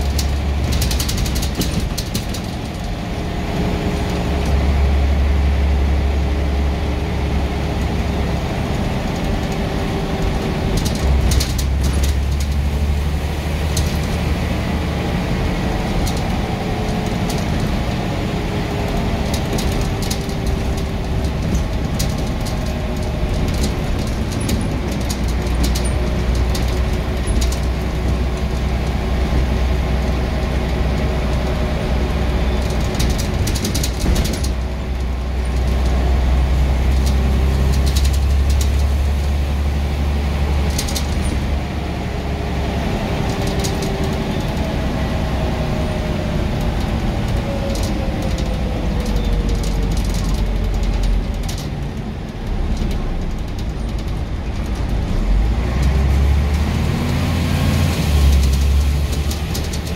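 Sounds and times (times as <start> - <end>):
rattles and ticks: 0.0 - 3.3, 7.8 - 41.8, 43.1 - 59.9
bus engine drone: 0.0 - 59.9.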